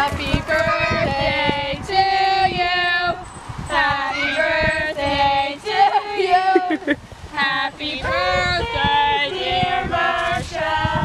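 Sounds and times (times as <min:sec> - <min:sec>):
voices singing held notes: 0:00.0 - 0:11.0.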